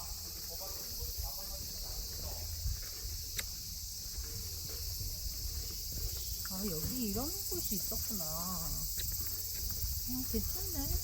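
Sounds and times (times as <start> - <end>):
insects chirring in trees: 0.0 - 11.0.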